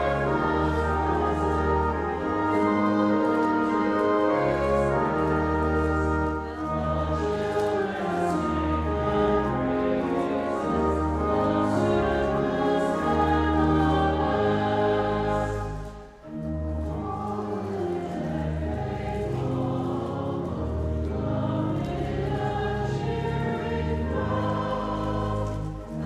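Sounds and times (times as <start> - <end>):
choir singing a hymn: 0.0 - 26.0
instrumental accompaniment: 0.0 - 26.0.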